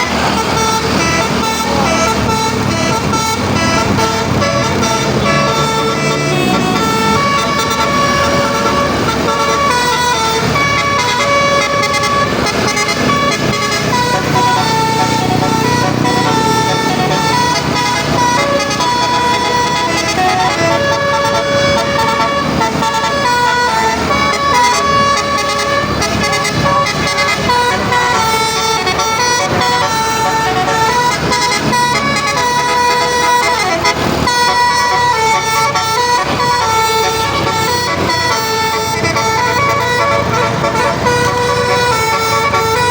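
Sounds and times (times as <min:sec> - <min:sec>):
musical bus air horn tune: 0:00.0 - 0:42.9.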